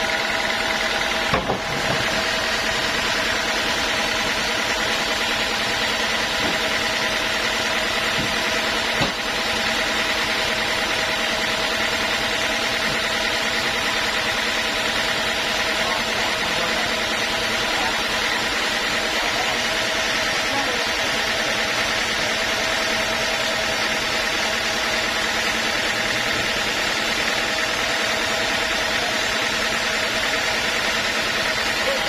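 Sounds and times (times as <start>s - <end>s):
sawmill machinery humming: 0.0s - 32.0s.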